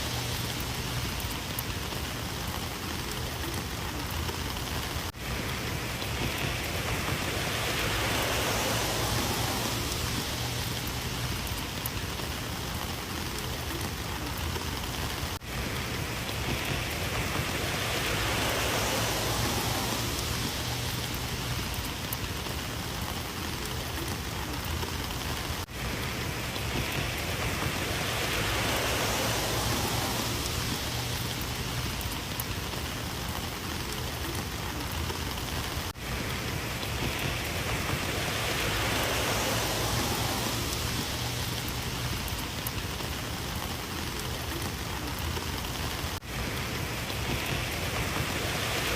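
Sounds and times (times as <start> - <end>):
rain falling: 0.0 - 48.9.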